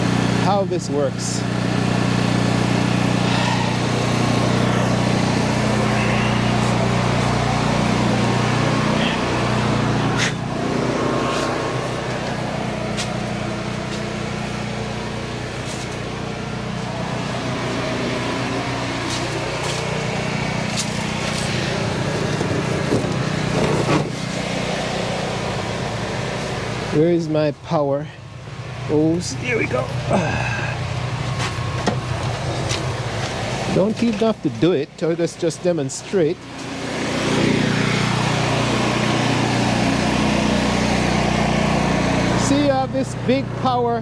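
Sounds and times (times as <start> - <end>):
generator engine running: 0.0 - 44.0.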